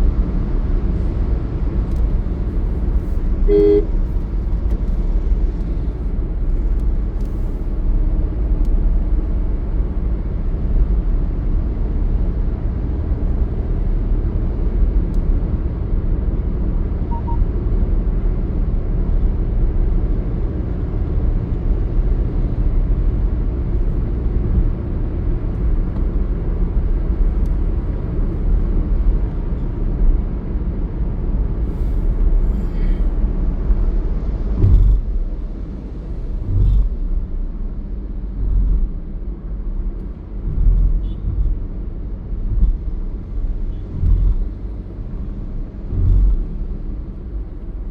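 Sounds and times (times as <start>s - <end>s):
vehicle road and engine rumble: 0.0s - 47.9s.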